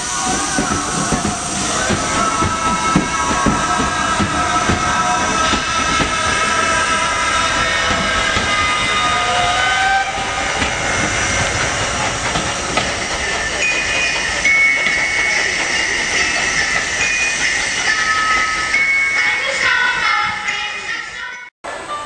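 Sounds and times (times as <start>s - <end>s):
steam hissing: 0.0s - 22.0s
train rumble: 0.0s - 22.0s
high held tones: 0.1s - 21.5s.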